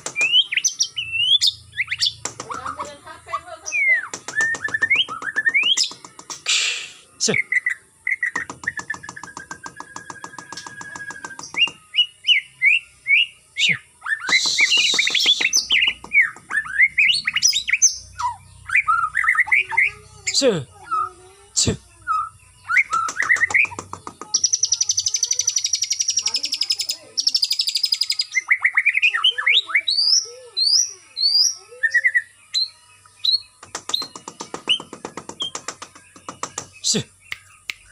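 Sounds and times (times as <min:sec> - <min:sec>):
songbird singing: 0:00.0 - 0:37.9.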